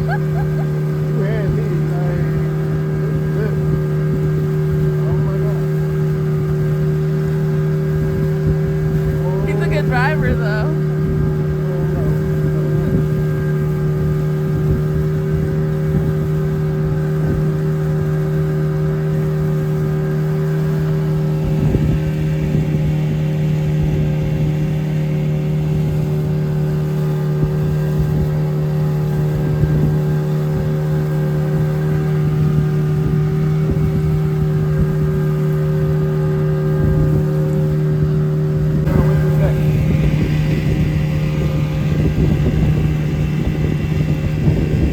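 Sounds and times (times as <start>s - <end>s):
engine droning steadily: 0.0s - 44.9s.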